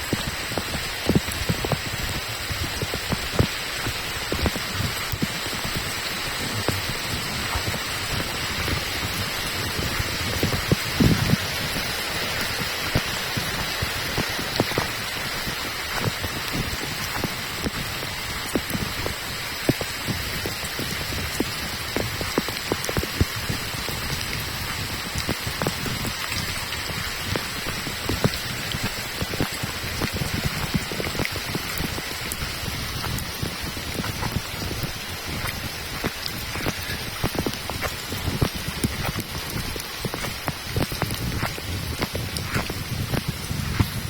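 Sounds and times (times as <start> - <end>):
raindrop strikes: 0.0 - 44.0
steady rain: 0.0 - 44.0.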